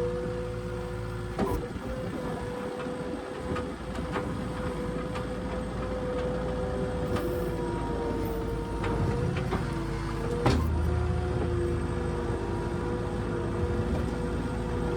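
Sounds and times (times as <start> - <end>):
skid steer engine whining: 0.0 - 14.9.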